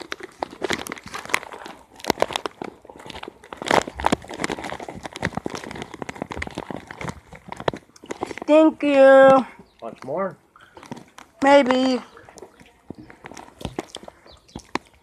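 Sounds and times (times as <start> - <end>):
chip bag crinkling: 0.0 - 8.6, 9.8 - 15.0.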